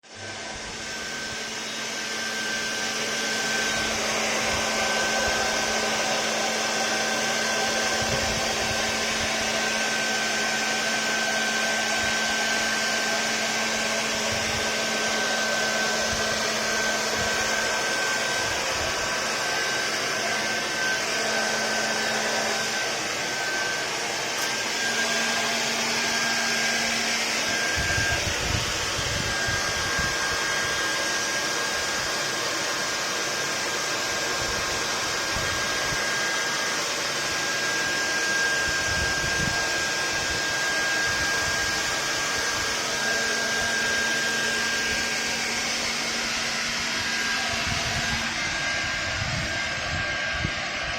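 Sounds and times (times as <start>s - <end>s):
electric motor whirring: 0.1s - 50.9s.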